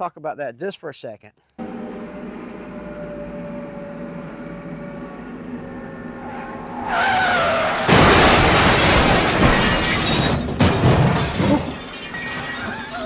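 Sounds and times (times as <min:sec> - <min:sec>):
loud crunching and scraping: 0:01.6 - 0:13.0
tractor engine: 0:01.6 - 0:13.0.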